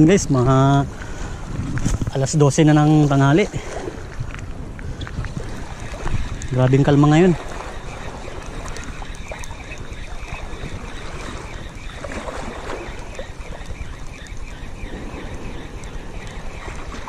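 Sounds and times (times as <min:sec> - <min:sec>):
faint water: 0:00.0 - 0:17.0
wind buffeting microphone: 0:00.0 - 0:17.0.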